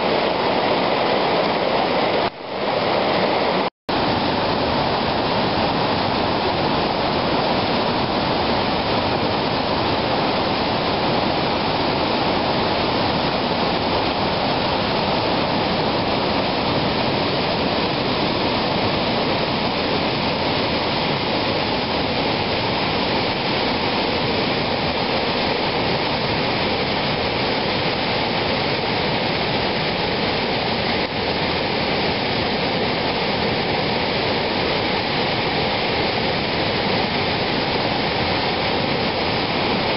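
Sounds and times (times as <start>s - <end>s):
water rushing over boulders: 0.0s - 39.9s.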